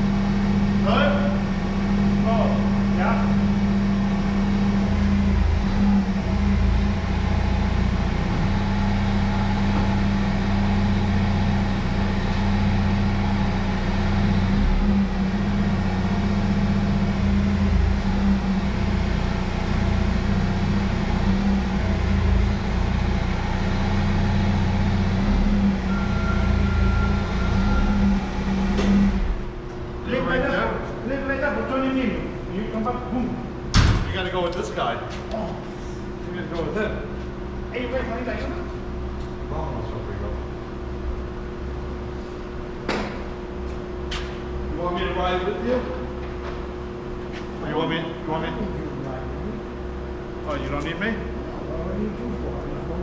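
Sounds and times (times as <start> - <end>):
truck engine running: 0.0 - 35.0, 35.6 - 53.0.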